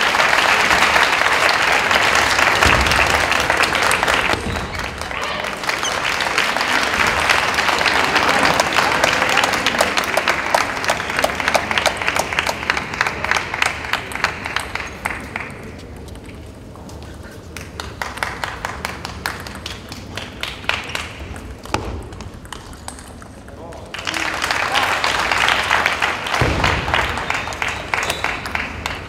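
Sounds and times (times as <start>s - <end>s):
audience applause: 0.0s - 15.8s, 17.6s - 21.2s, 23.9s - 29.0s.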